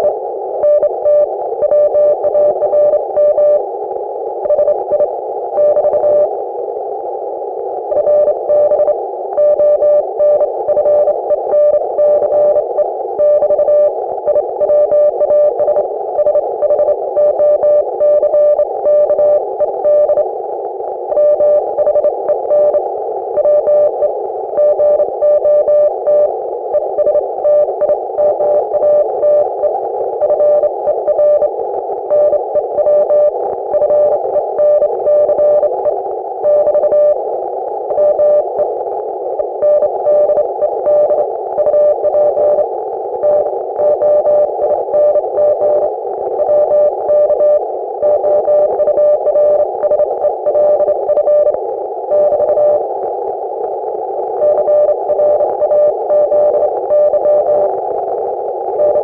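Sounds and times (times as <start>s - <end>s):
morse code beeps: 0.0s - 3.6s, 4.4s - 6.3s, 7.9s - 20.3s, 21.1s - 22.8s, 23.4s - 37.2s, 37.9s - 38.7s, 39.5s - 42.6s, 43.2s - 52.8s, 54.4s - 57.7s, 58.7s - 59.0s
radio band noise hiss: 0.0s - 59.0s.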